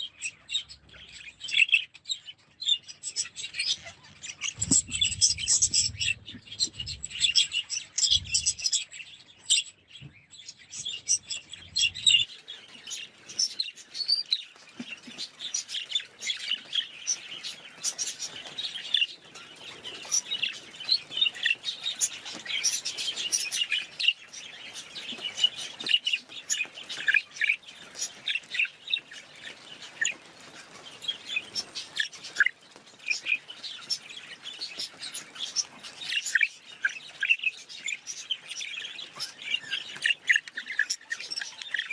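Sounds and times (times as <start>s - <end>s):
budgerigars chirping: 0.0s - 14.6s, 15.2s - 41.9s.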